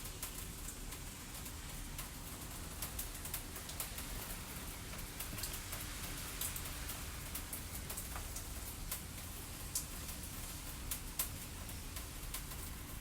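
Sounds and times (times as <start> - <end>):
steady rain hiss: 0.0 - 13.0
fire crackles: 0.2 - 13.0.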